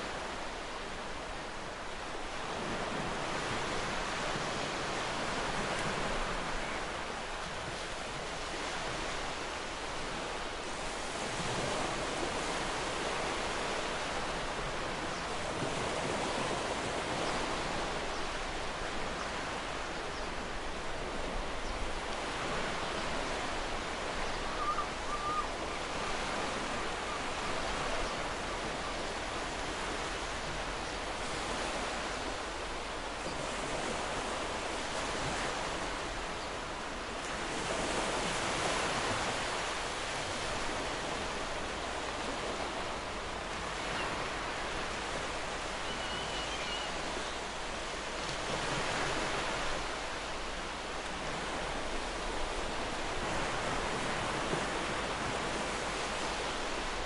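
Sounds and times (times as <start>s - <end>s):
ocean surf on beach: 0.0s - 57.0s.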